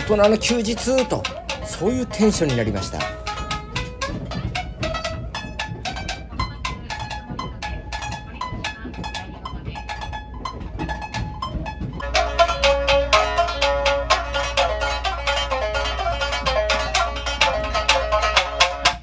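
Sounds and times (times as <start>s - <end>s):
shamisen plucked notes: 0.0s - 19.0s.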